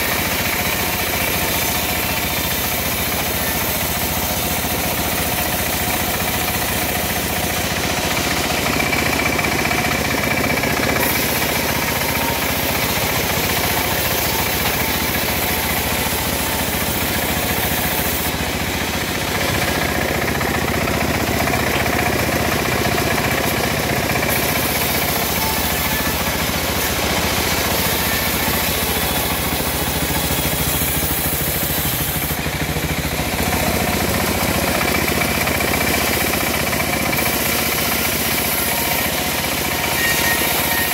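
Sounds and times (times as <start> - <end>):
band sawmill cutting boards: 0.0 - 40.9.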